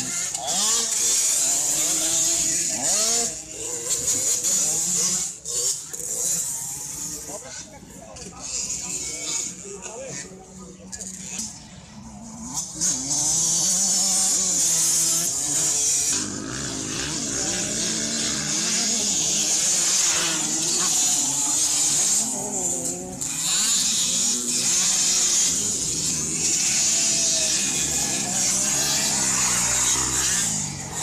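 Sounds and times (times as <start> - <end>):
motocross bikes revving: 0.0 - 31.0.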